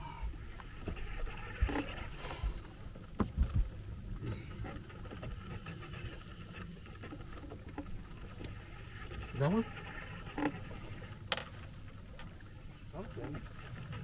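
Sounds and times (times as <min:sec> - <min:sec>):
low boat rumble: 0:00.0 - 0:14.0.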